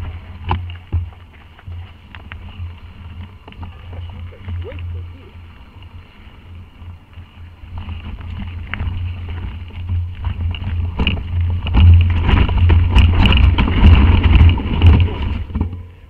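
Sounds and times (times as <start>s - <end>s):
bike rattling over rough ground: 0.0s - 16.0s
wind and tyres rumbling: 0.0s - 16.0s.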